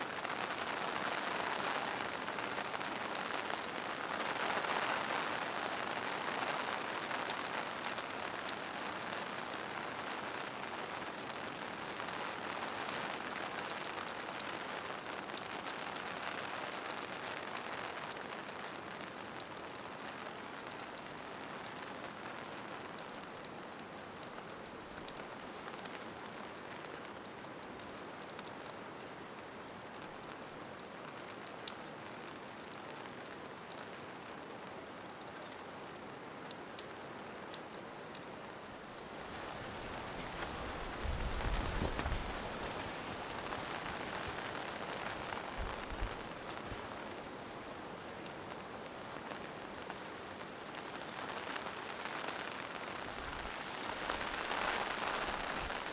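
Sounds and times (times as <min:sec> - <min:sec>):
rain pattering on leaves: 0:00.0 - 0:55.9.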